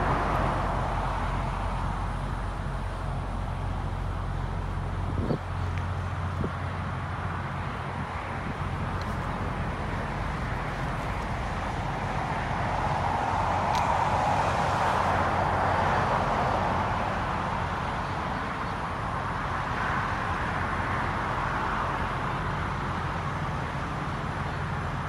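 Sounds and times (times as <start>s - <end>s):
low engine hum: 0.0s - 25.0s
passing traffic: 0.0s - 25.0s.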